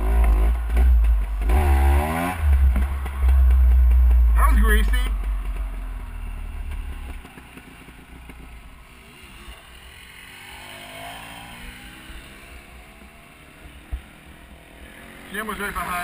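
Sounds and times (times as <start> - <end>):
dirt bike riding past: 0.0 - 16.0
dirt bikes idling: 0.0 - 16.0.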